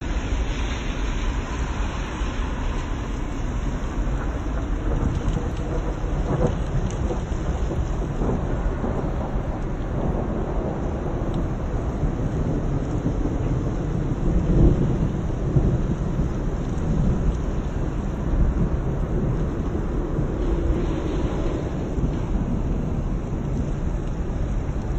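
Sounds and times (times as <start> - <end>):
low rumble of thunder: 0.0 - 24.9
rain: 0.0 - 24.9
wind: 0.0 - 24.9.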